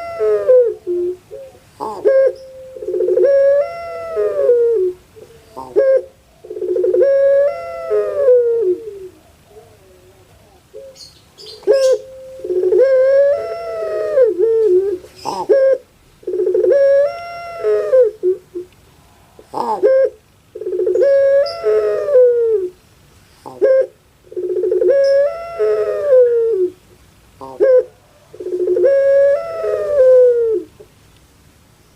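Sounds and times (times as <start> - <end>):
dove cooing: 0.0 - 18.7, 19.4 - 22.8, 23.4 - 26.8, 27.4 - 30.9.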